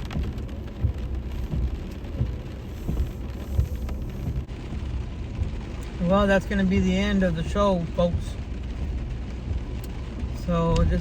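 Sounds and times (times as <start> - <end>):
rain falling: 0.0 - 11.0
raindrops tapping: 0.0 - 11.0.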